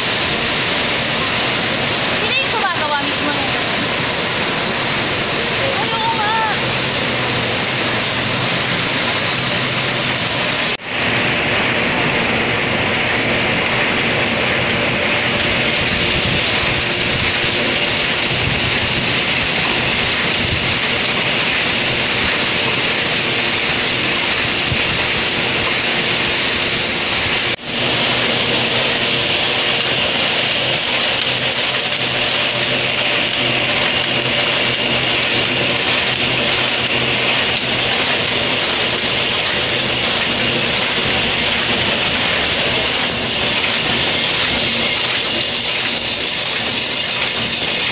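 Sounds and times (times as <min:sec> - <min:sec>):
factory machinery din: 0:00.0 - 0:47.9.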